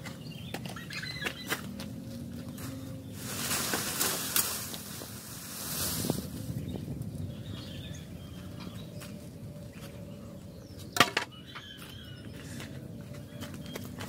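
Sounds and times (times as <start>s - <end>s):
outdoor background: 0.0s - 14.0s.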